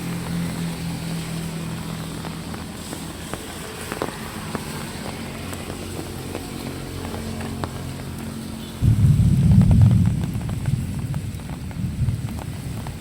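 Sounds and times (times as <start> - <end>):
light drizzle: 0.0 - 13.0
vehicle engine humming: 0.0 - 13.0
water drips and ticks: 0.0 - 13.0.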